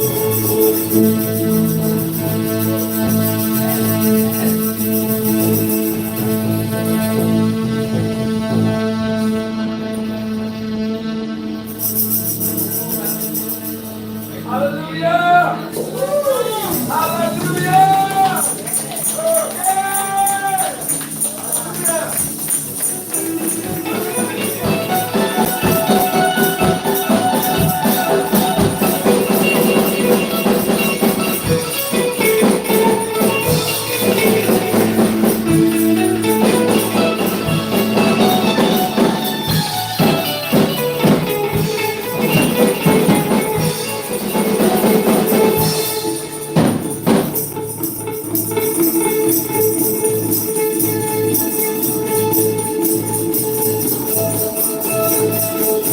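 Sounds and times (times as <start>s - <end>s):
tambourine shaken: 0.0s - 7.4s, 11.7s - 14.5s, 15.8s - 55.9s
band playing instrumental music: 0.0s - 55.9s.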